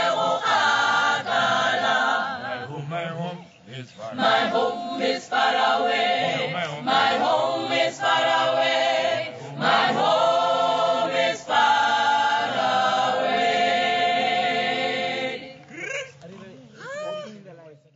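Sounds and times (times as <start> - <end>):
group singing in harmony: 0.0 - 15.8.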